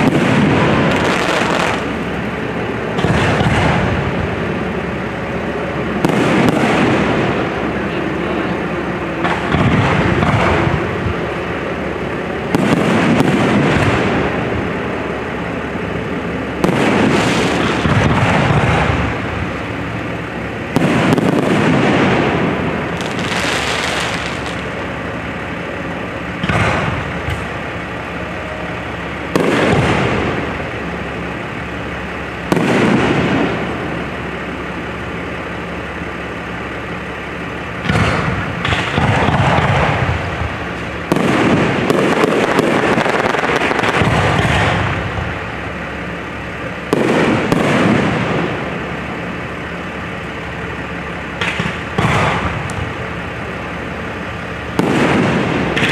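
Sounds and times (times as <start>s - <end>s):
fireworks booming: 0.0s - 55.9s.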